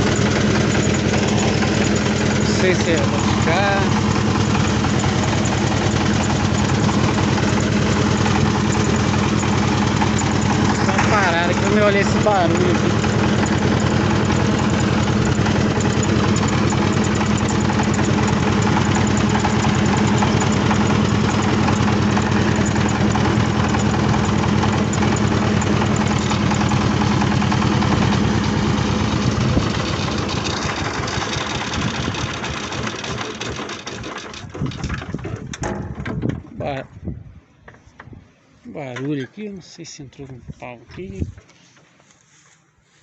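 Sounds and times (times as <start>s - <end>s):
diesel engine idling: 0.0s - 35.5s.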